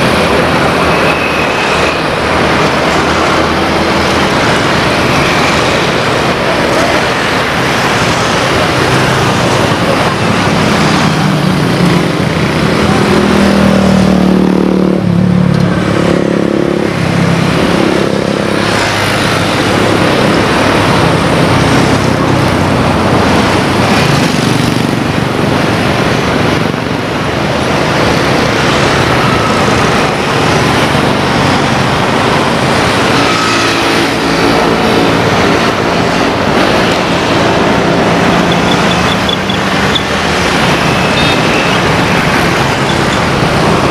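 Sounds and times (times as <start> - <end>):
steady noise: 0.0 - 43.9.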